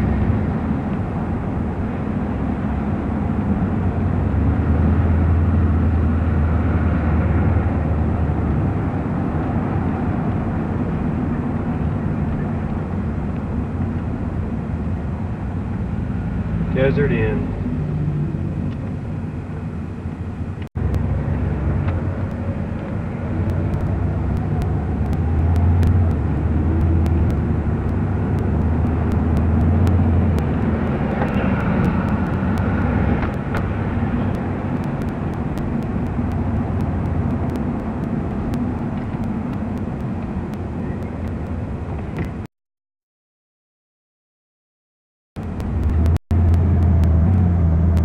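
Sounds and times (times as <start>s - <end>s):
engine and tyre rumble: 0.0s - 42.5s, 45.4s - 48.0s
vehicles passing: 0.0s - 42.5s, 45.4s - 48.0s.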